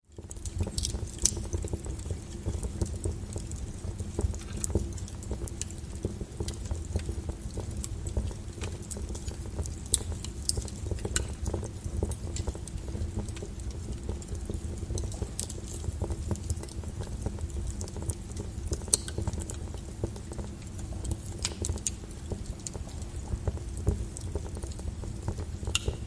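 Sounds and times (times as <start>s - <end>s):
low flame noise: 0.0s - 26.0s
wood fire crackling and popping: 0.0s - 26.0s.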